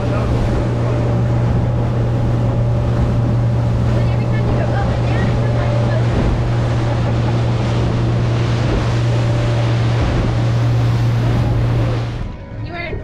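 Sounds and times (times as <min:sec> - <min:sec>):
outboard motor drone: 0:00.0 - 0:13.0
water noise: 0:00.0 - 0:13.0.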